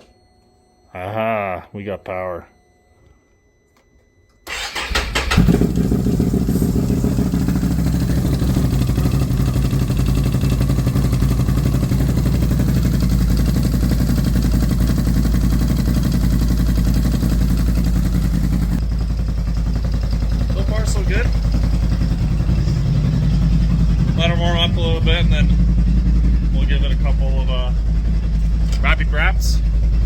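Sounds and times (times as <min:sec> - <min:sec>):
engine cranking and idling: 0:04.4 - 0:30.0.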